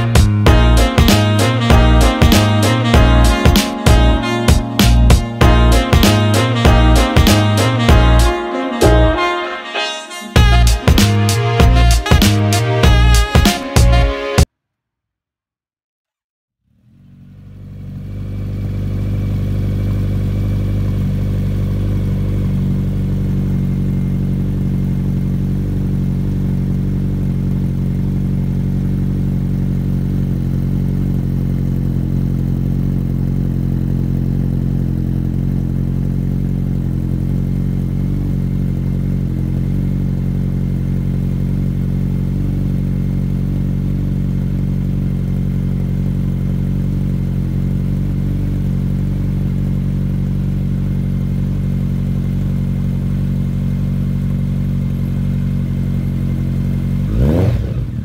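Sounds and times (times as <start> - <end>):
motorcycle engine idling: 0.0 - 8.2, 16.7 - 58.0.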